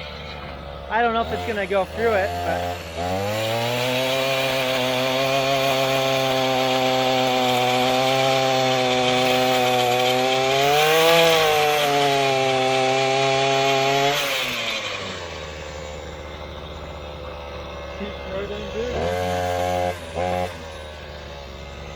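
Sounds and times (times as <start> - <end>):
tiller engine running: 0.0 - 21.9
tines digging into grass sod: 0.0 - 21.9.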